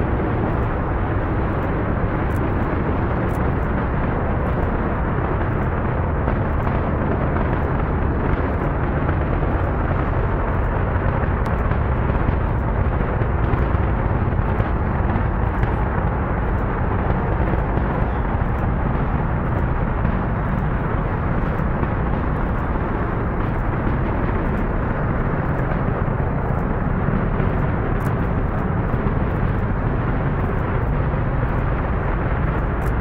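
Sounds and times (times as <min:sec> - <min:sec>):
rocket engines roaring: 0:00.0 - 0:33.0.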